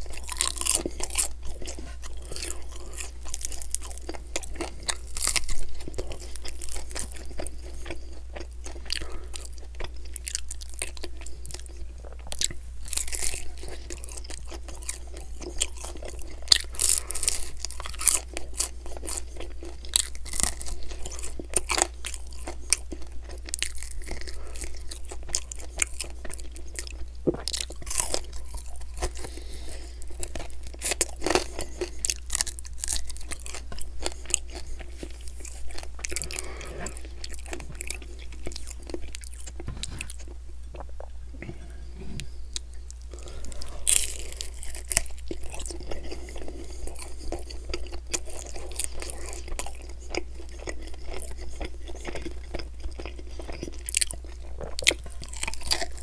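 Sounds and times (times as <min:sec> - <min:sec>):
chewing chicken wings: 0:00.0 - 0:41.1, 0:42.6 - 0:56.0.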